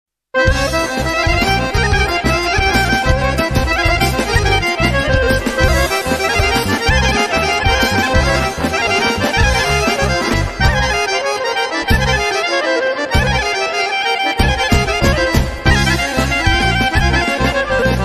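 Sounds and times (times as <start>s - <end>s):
accordion: 0.4s - 18.0s
folk band dance tune: 0.4s - 18.0s
pulsing bass beat: 0.5s - 11.2s, 13.2s - 13.5s, 14.4s - 18.0s.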